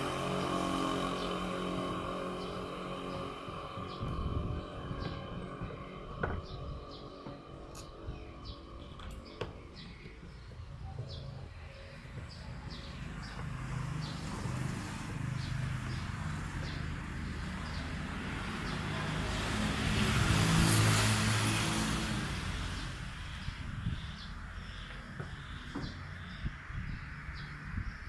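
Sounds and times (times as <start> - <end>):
motor vehicle passing: 0.0 - 28.0
small birds chirping: 0.1 - 19.3, 22.8 - 28.0.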